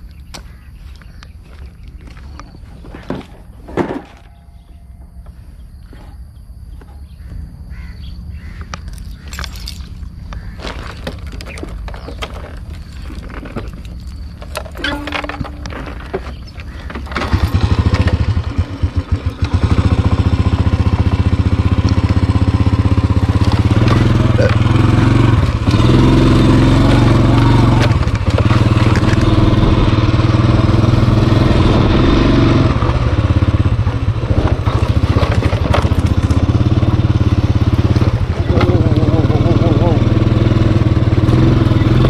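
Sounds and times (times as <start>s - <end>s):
motorcycle engine starting and running: 0.0s - 42.0s.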